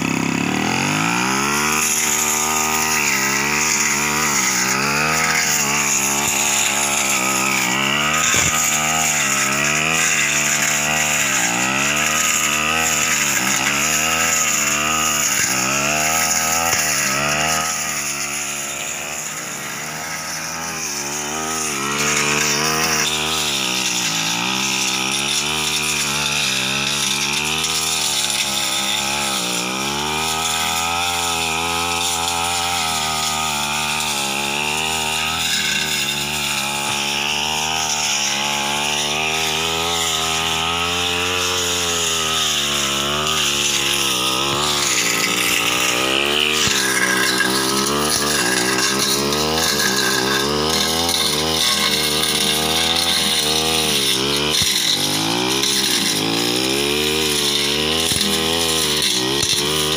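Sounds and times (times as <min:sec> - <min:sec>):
blade cutting through brush: 0:00.0 - 0:59.9
brush cutter engine under load: 0:00.0 - 0:59.9.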